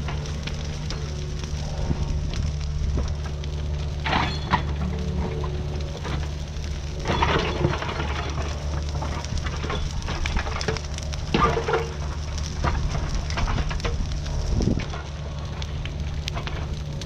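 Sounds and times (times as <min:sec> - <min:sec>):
brush fire crackling: 0:00.0 - 0:17.0
diesel engine running: 0:00.0 - 0:17.0
wood cracking loudly: 0:00.0 - 0:17.0.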